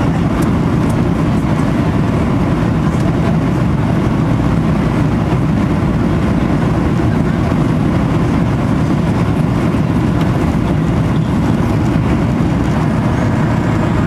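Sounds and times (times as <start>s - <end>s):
airplane rumble: 0.0s - 14.0s.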